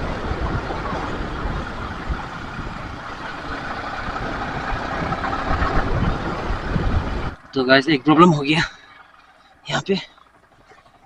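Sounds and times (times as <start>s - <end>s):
motorcycle engine running: 0.0s - 11.0s
road and wind rush: 0.0s - 11.0s.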